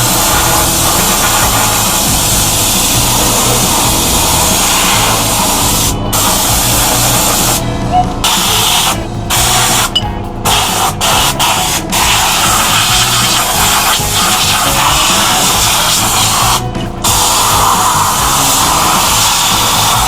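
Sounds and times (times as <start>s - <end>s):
loud hissing noise: 0.0s - 20.0s
music with low beat: 0.0s - 20.0s.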